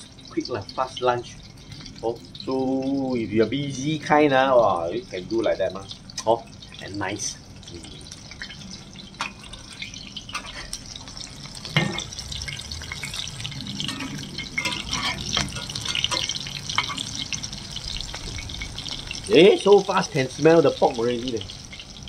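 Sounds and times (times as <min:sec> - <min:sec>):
patty sizzling in hot oil: 0:00.0 - 0:22.0.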